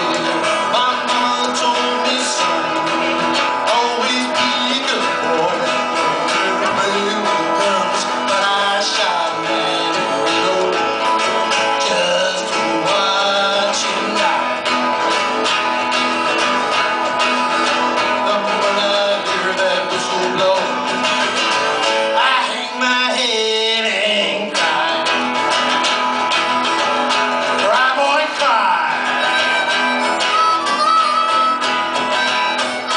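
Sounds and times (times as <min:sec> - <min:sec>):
harmonica bending notes: 0:00.0 - 0:23.0, 0:28.8 - 0:32.9
strummed acoustic guitars: 0:00.0 - 0:32.9.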